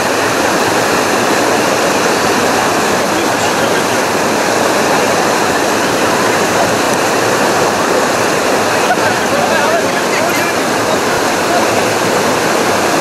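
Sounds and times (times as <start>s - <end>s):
whitewater rushing over rocks: 0.0s - 13.0s.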